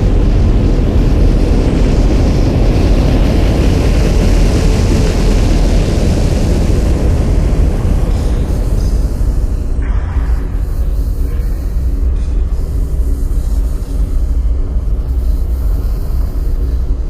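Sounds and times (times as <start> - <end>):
spaceship engine rumble with hiss: 0.0 - 17.0.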